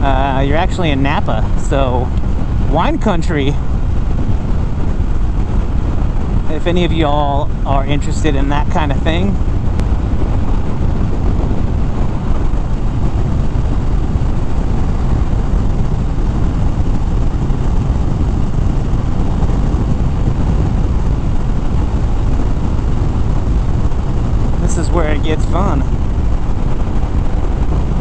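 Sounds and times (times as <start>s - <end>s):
motorcycle engine rumble: 0.0s - 28.0s
wind rushing over microphone: 0.0s - 28.0s.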